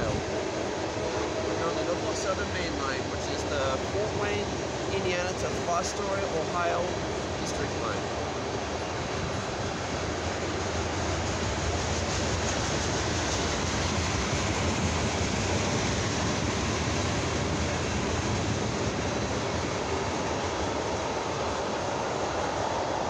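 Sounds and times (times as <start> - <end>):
train wheels on rail: 0.0 - 23.0.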